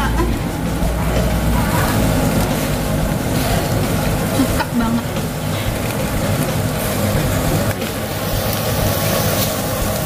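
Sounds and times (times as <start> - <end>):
meat sizzling on grill: 0.0 - 10.0.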